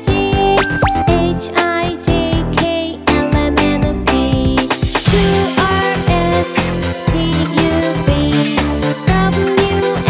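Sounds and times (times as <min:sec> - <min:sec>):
instrumental children's music: 0:00.0 - 0:10.0.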